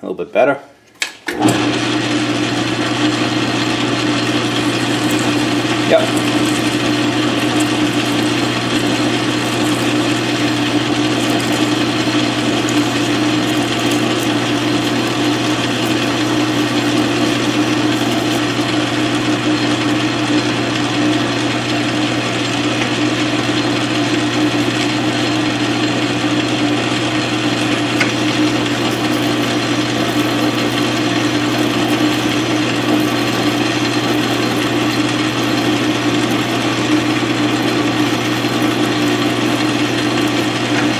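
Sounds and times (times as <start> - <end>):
drill cutting into metal: 1.3 - 40.9
lathe running: 1.3 - 40.9.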